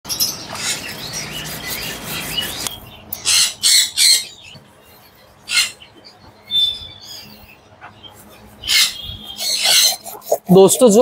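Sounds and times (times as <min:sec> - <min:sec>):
budgies chattering and chirping: 0:00.1 - 0:11.0.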